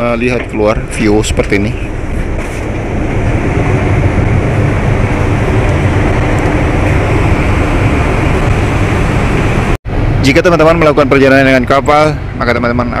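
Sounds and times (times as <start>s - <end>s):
ship rumbling and rushing: 0.0s - 13.0s.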